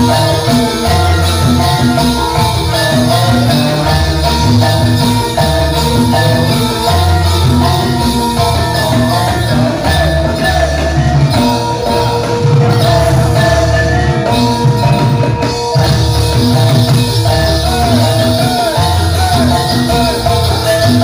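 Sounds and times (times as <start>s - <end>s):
drums playing repeating pattern: 0.0s - 21.0s
metallophone tones: 0.0s - 21.0s
wavering melody line: 0.0s - 21.0s.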